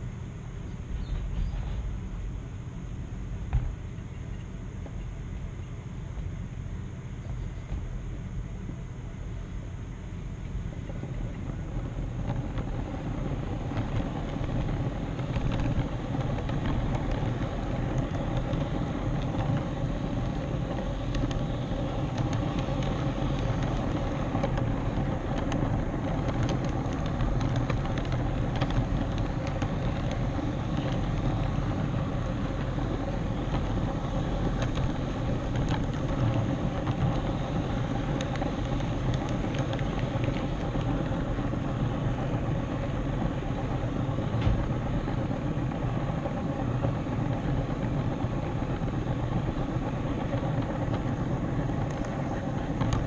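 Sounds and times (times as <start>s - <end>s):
model train wheels on rail: 10.2s - 53.0s.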